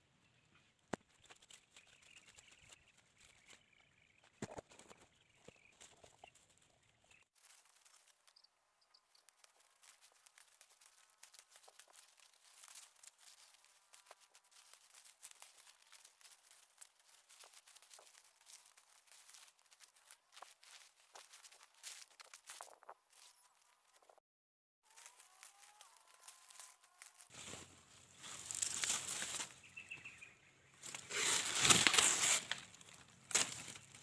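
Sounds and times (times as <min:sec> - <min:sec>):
faint crackling and rustling: 0:00.6 - 0:24.2, 0:24.9 - 0:29.6.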